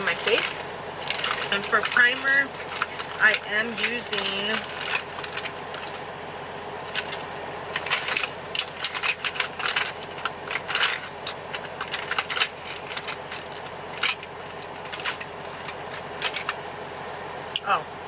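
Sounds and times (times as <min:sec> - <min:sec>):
plastic makeup cases rattling: 0:00.0 - 0:06.0, 0:06.9 - 0:16.6
steady cab hum: 0:00.0 - 0:18.0.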